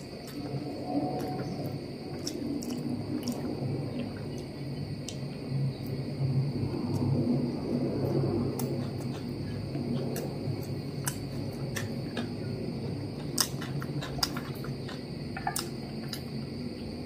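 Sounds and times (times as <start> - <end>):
person chewing food: 0.0 - 6.0, 8.1 - 16.8
steady low hum: 0.0 - 17.0.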